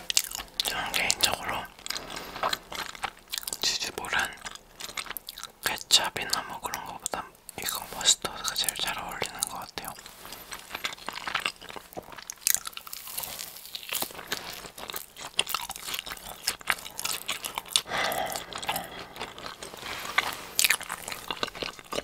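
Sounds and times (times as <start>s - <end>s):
chewing crunchy cheese ball: 0.0s - 22.0s.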